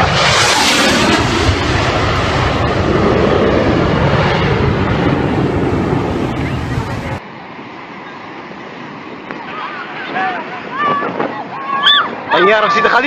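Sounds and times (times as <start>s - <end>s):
fighter jet roar: 0.0s - 13.0s.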